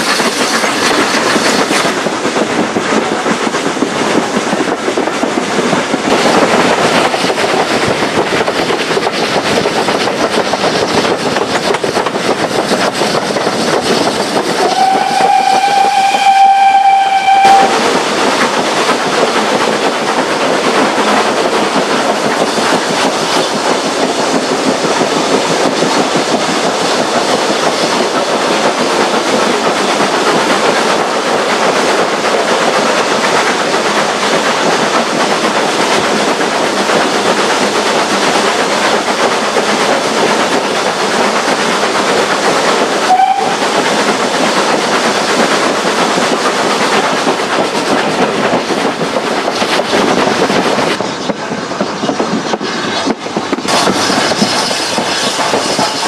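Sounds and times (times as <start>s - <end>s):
steam train rushing through tunnel: 0.0s - 56.0s.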